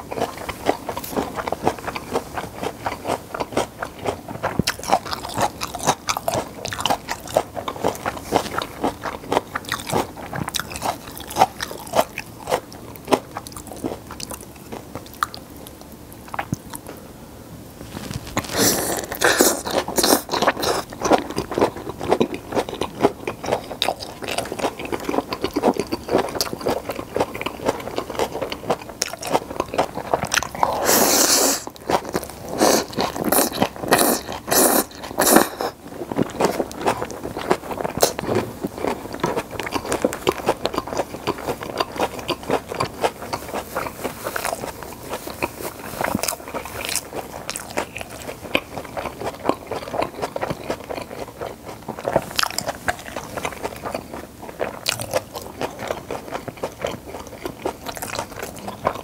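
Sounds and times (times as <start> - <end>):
chewing and crunching food: 0.0 - 17.0, 17.8 - 59.0.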